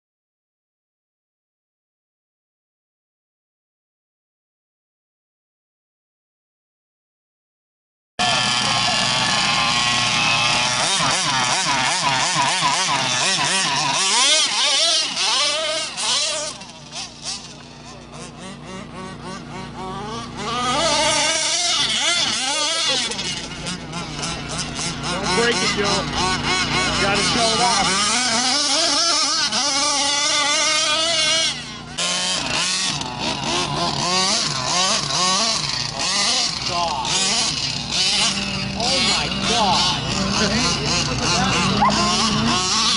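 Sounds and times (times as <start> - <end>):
two-stroke engine revving: 8.2 - 42.9.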